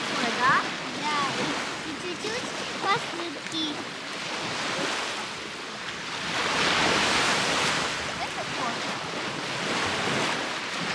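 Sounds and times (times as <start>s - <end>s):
surf washing onto sandy shore: 0.0s - 10.9s.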